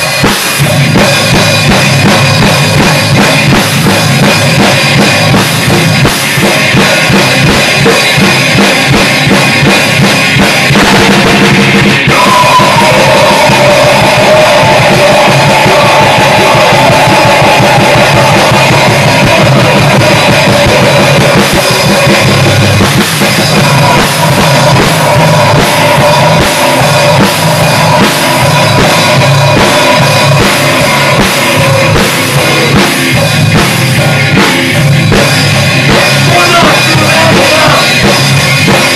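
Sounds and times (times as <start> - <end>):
drum kit: 0.0 - 38.9
guitar: 0.0 - 38.9.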